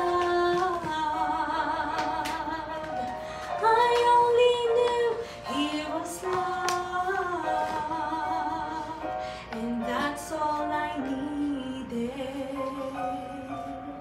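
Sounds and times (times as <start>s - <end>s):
woman singing with vibrato: 0.0s - 14.0s.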